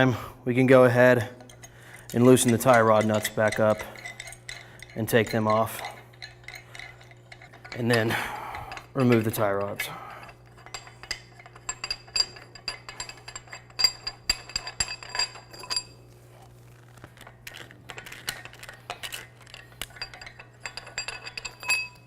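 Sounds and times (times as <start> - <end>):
low steady hum: 0.0 - 22.0
metal rods clinking: 1.0 - 16.0, 17.2 - 22.0.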